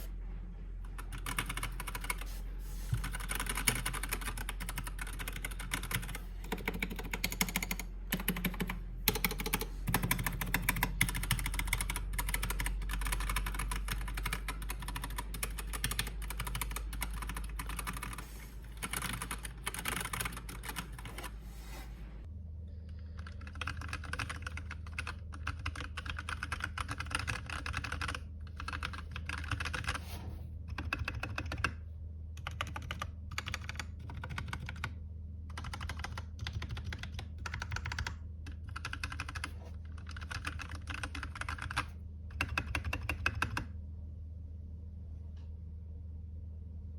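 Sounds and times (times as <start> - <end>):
background hum: 0.0 - 46.9
mechanical keyboard typing: 0.9 - 2.3, 3.0 - 21.3, 23.2 - 30.0, 30.7 - 31.8, 32.4 - 43.7.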